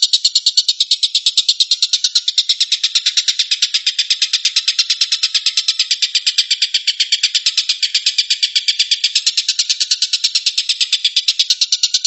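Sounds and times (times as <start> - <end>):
bird rapid chattering: 0.0 - 12.0.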